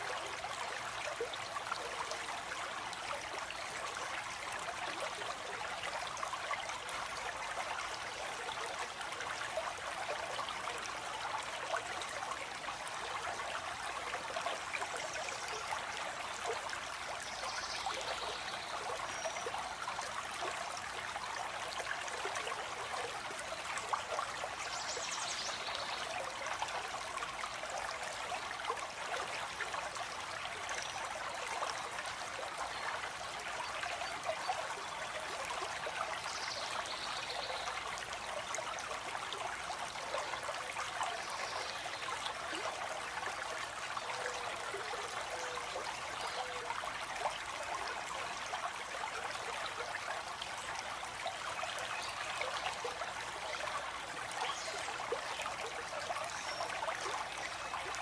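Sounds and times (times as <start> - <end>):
flowing stream: 0.0 - 58.0.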